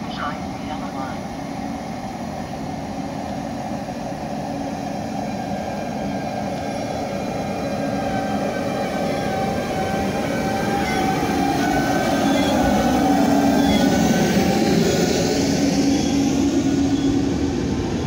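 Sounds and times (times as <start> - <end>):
electric train pulling in: 0.0 - 18.0.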